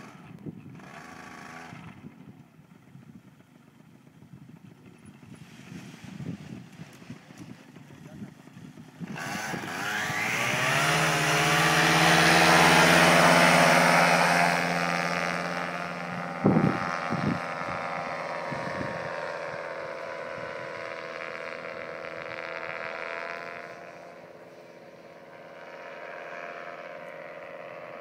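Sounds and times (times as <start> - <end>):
paramotor engine running: 0.0 - 28.0.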